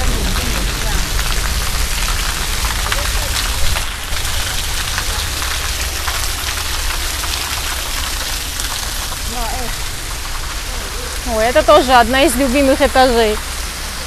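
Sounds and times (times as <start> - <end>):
escalator humming: 0.0 - 14.0.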